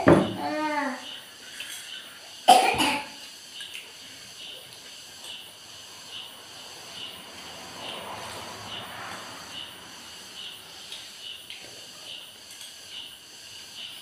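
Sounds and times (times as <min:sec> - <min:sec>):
insect chirping: 0:00.0 - 0:14.0
steady high hiss: 0:00.0 - 0:14.0.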